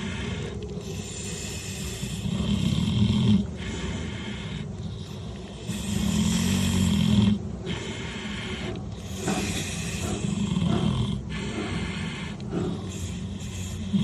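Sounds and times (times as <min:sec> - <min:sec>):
pig breathing: 0:00.0 - 0:14.0
pig snoring: 0:00.0 - 0:14.0.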